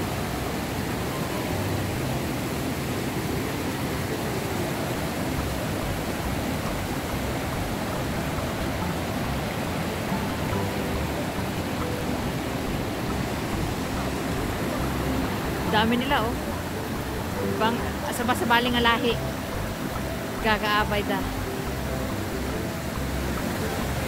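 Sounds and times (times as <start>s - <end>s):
river rapids rushing over rocks: 0.0s - 24.0s.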